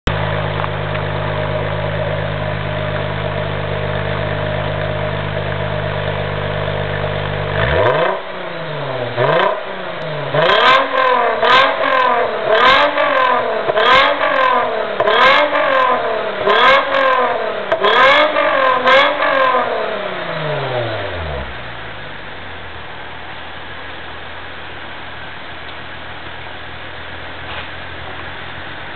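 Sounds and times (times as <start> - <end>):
car exhaust idling and revving: 0.1 - 28.9.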